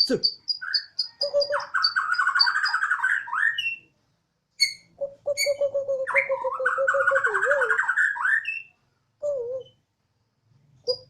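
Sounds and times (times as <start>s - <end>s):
songbird singing: 0.0s - 10.0s, 10.7s - 11.0s.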